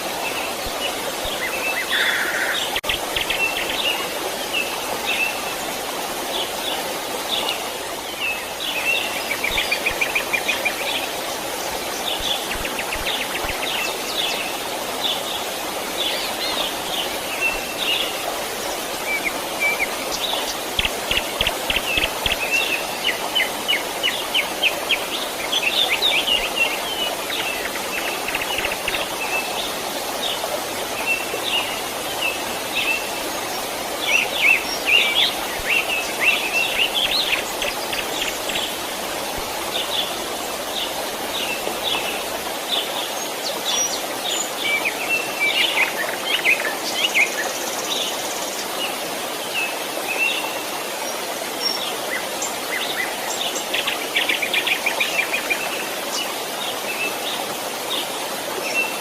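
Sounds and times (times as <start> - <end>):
small stream rushing: 0.0 - 59.0.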